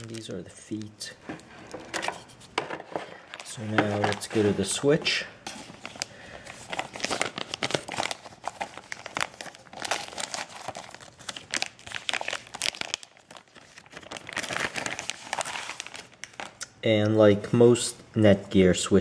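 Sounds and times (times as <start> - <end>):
plastic bag crinkling: 0.0 - 2.0, 2.9 - 16.7.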